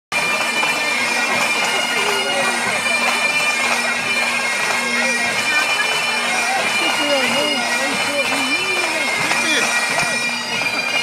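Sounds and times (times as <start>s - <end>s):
pipe band bagpipes playing: 0.1s - 11.0s.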